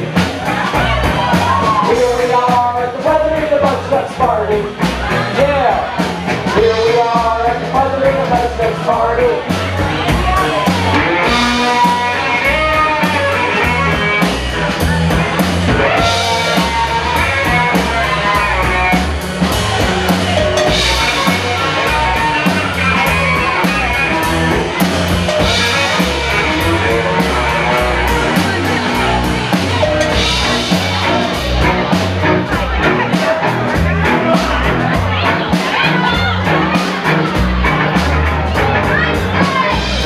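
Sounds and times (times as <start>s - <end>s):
drum kit beat: 0.0s - 40.0s
electric bass: 0.0s - 40.0s.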